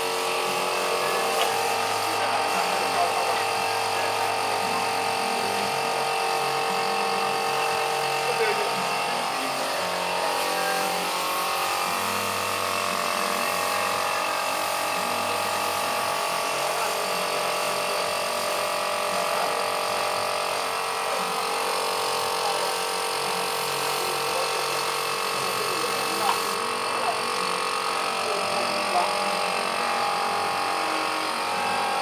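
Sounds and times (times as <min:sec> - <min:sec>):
air compressor motor hum: 0:00.0 - 0:32.0
paint spray gun hissing: 0:00.0 - 0:32.0.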